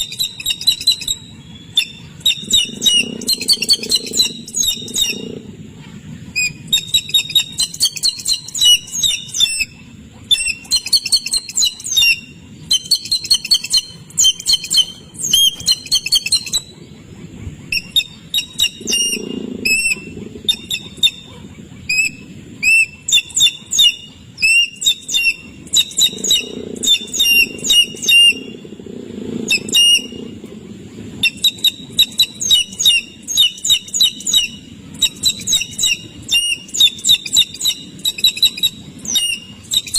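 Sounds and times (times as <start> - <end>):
birds chirping rapidly: 0.0 - 39.9
faint low rumble: 0.0 - 39.9.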